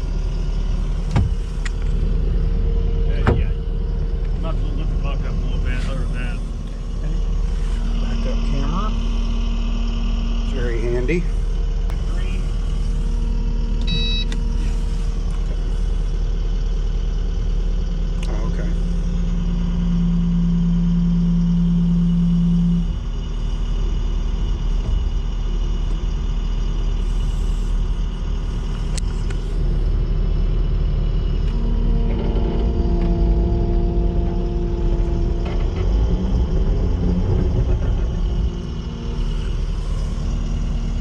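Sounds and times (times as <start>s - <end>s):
diesel engine running: 0.0s - 41.0s
higher engine tone: 0.0s - 41.0s.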